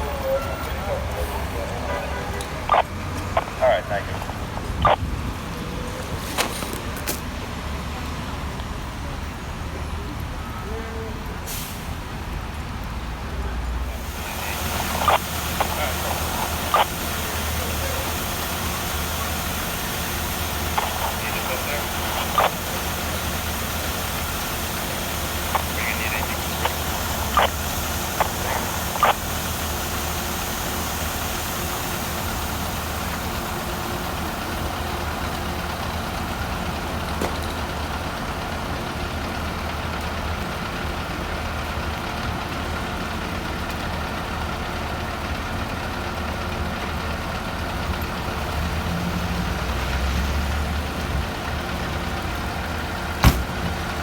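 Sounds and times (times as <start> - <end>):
diesel engines idling: 0.0 - 54.0.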